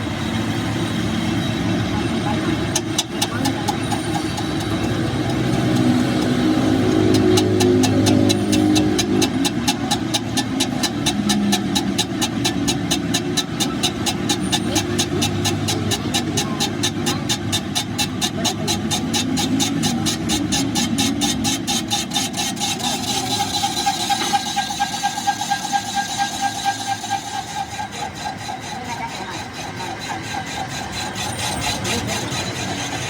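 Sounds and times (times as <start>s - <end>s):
engine running: 0.0s - 33.0s
rapid engine ticking: 0.0s - 33.0s.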